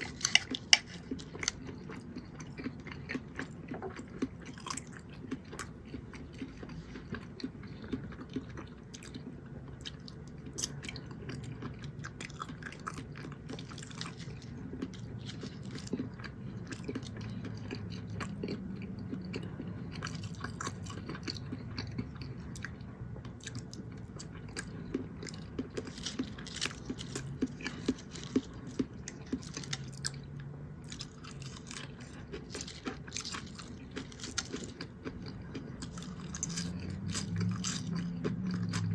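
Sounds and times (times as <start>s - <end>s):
man chewing food: 0.0s - 38.9s.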